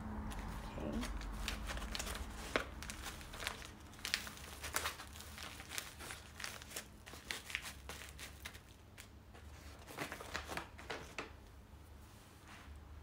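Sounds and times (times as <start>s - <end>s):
stiff fabric crinkling and rustling: 0.2s - 11.4s.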